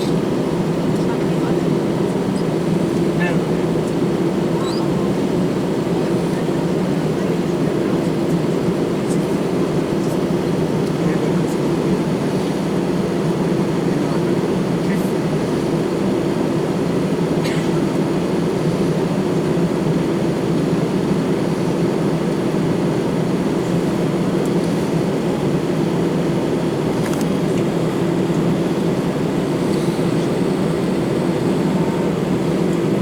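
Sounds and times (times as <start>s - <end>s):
aircraft engine rumble: 0.0s - 33.0s.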